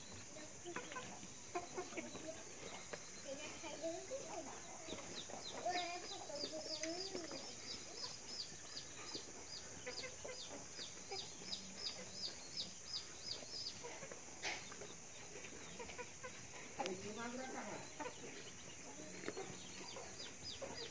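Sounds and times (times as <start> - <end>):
chicks high falling chirps: 0.0 - 20.9.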